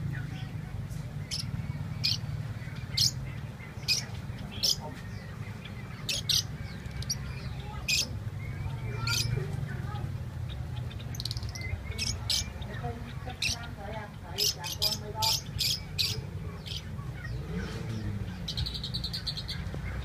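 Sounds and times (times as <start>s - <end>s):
cage birds chirping: 0.0s - 20.0s.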